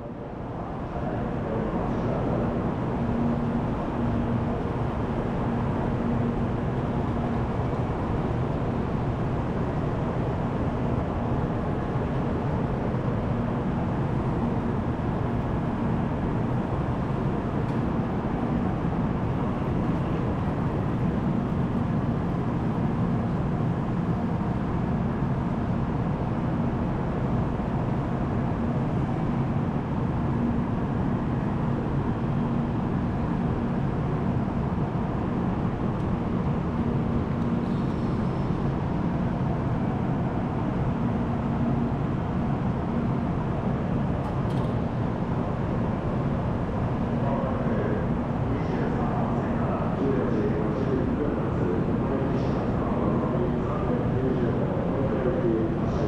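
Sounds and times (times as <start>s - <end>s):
station platform rumble: 0.0s - 56.0s.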